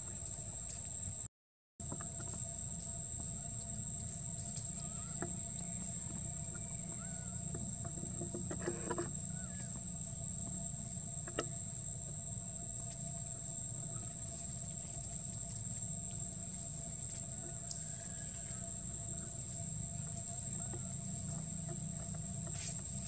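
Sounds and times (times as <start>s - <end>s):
high-pitched insect drone: 1.8s - 23.0s.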